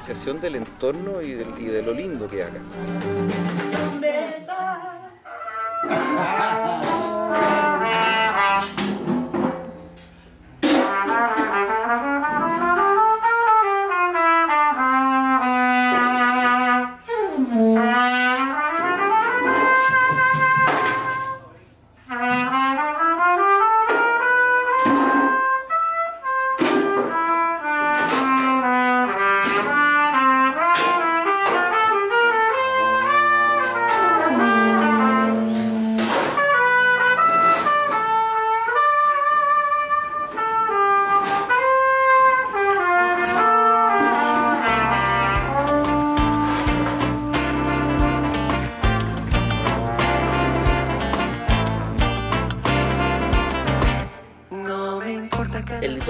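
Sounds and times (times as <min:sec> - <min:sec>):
brass instrument playing jazz: 0:00.0 - 0:04.0, 0:05.2 - 0:54.5.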